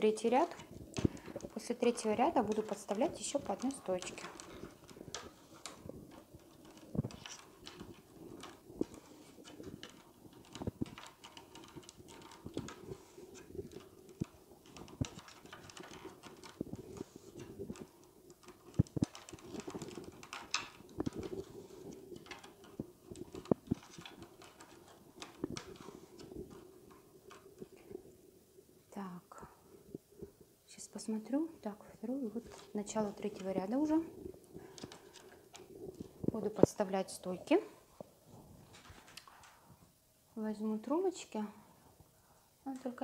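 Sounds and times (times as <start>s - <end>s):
paper tubes clicking and rustling: 0.0s - 28.9s, 31.2s - 40.0s.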